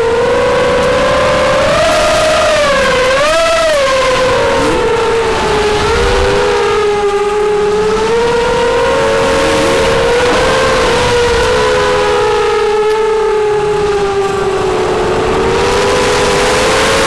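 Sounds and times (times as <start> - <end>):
drone motors whining: 0.0 - 17.0
wind rush on microphone: 0.0 - 17.0.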